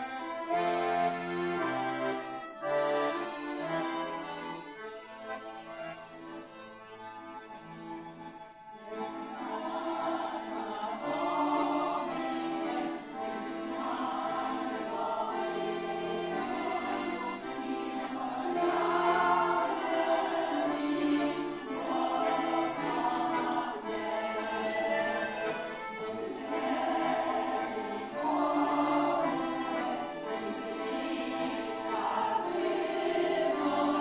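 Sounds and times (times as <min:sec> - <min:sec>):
folk choir singing: 0:00.0 - 0:04.7, 0:08.8 - 0:34.0
accordions: 0:00.0 - 0:34.0
plucked string instrument: 0:00.0 - 0:34.0.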